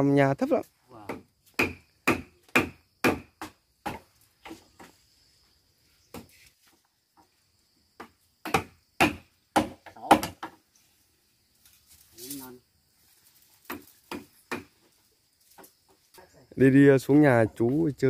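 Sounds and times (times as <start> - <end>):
faint high insect buzz: 0.0 - 18.0.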